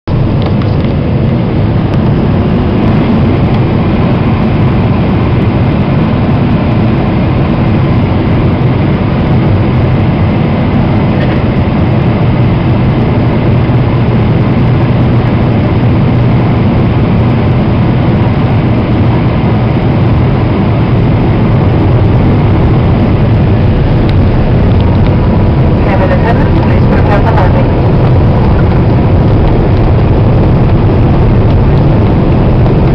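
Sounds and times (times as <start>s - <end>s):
jet engine cabin rumble: 0.0s - 32.9s.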